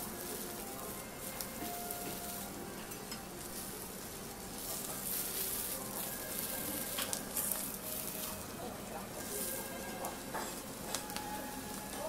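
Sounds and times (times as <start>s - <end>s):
peppers sizzling in oil: 0.0s - 12.0s.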